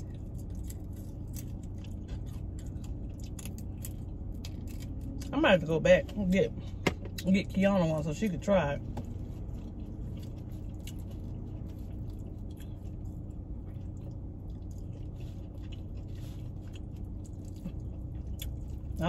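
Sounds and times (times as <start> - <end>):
chewing: 0.0 - 5.3, 8.9 - 19.0
steady low hum: 0.0 - 19.0.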